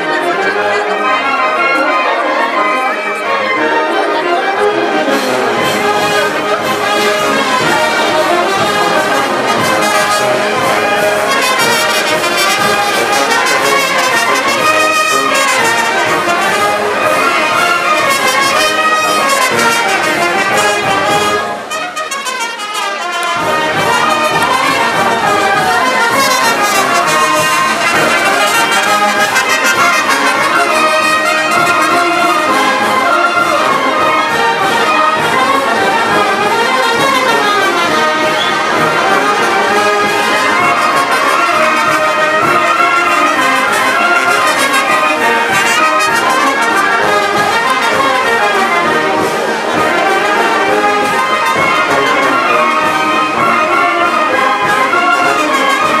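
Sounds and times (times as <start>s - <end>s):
brass band playing dance music: 0.0s - 56.0s.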